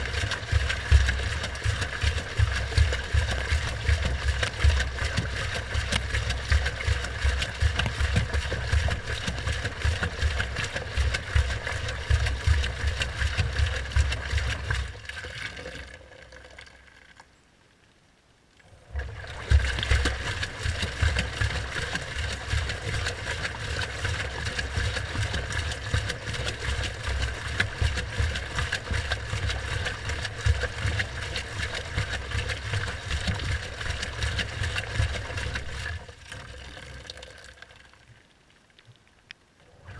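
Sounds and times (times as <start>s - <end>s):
water sloshing: 0.0s - 17.4s, 18.7s - 38.2s.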